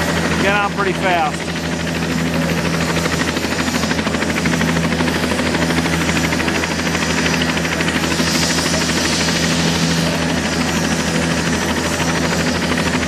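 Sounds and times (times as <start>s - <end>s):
helicopter rotors and turbine: 0.0s - 13.0s.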